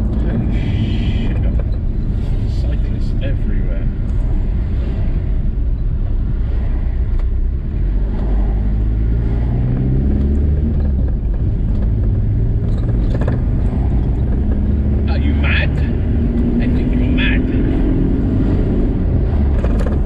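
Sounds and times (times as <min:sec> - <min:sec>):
road rumble: 0:00.0 - 0:20.0
van engine drone: 0:00.0 - 0:20.0.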